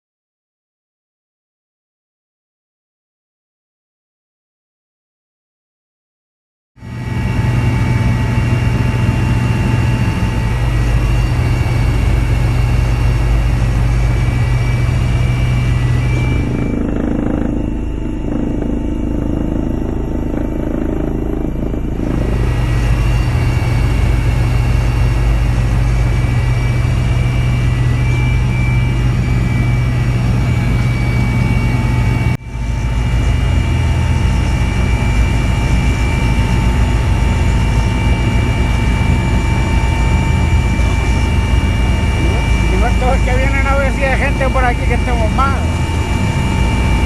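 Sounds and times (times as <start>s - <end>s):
helicopter engine and rotor: 6.8s - 47.0s.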